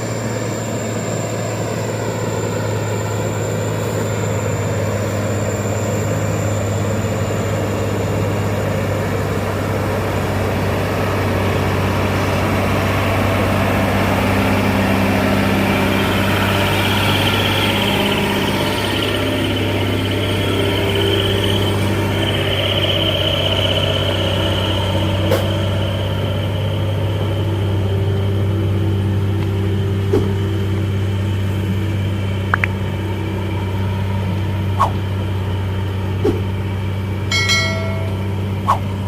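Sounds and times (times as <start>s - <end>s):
diesel engine humming: 0.0s - 39.0s
high steady whine: 0.0s - 39.0s.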